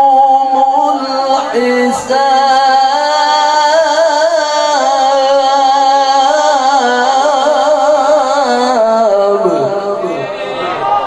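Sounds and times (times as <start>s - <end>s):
man reciting melodically: 0.0s - 10.6s.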